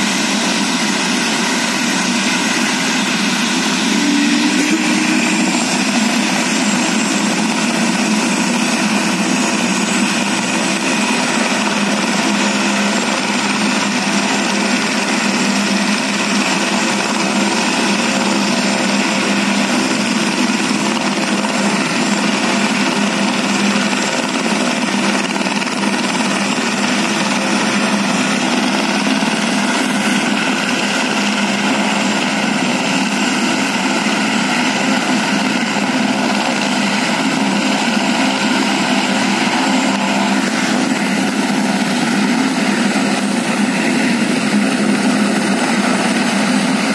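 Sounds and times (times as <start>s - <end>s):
helicopter turbine and rotor drone: 0.0s - 46.9s.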